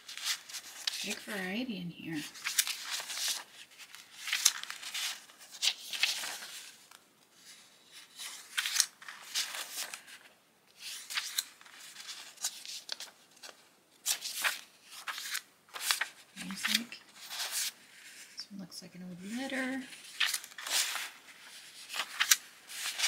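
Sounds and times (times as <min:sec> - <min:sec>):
paper sheets rustling: 0:00.0 - 0:01.5, 0:02.1 - 0:18.4, 0:19.2 - 0:23.0.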